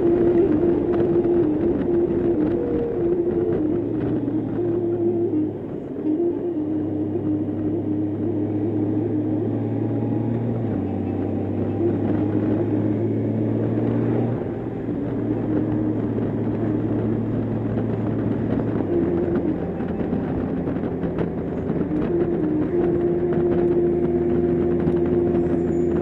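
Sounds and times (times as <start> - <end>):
motorcycle engine droning: 0.0 - 26.0
road and wind noise hiss: 0.0 - 26.0.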